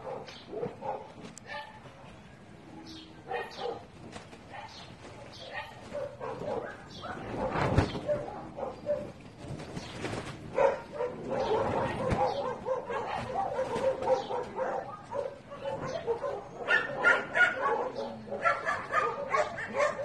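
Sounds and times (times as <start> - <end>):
dogs barking and yipping: 0.0 - 2.3, 3.2 - 20.0.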